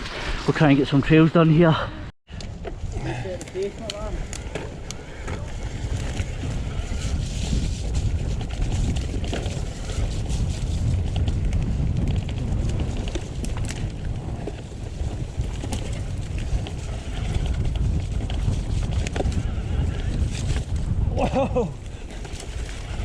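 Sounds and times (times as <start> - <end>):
wind buffeting microphone: 0.0 - 23.0
bike clicks and rattles: 2.3 - 23.0.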